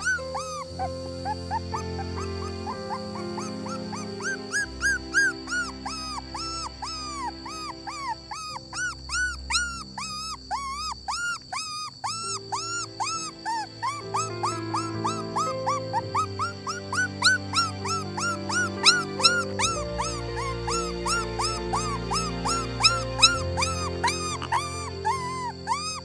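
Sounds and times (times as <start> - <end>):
background music with held chords: 0.0 - 9.6, 12.4 - 25.9
dog whimpering: 0.0 - 26.0.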